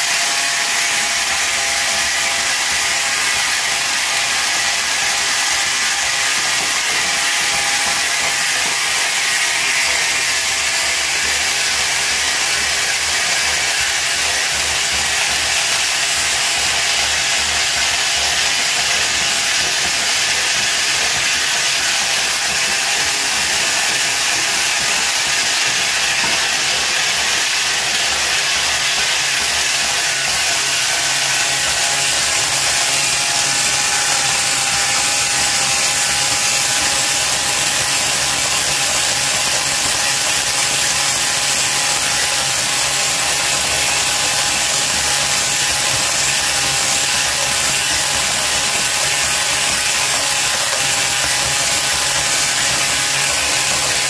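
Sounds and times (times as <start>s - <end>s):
electric mixer whisking in glass bowl: 0.0s - 54.0s.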